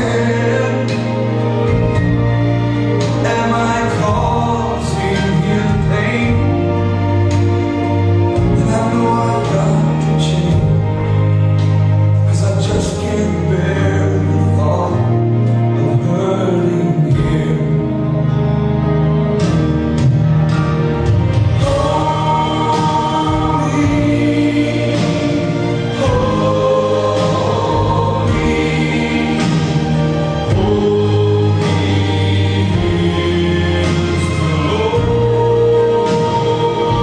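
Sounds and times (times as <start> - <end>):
gospel choir singing: 0.0 - 37.0.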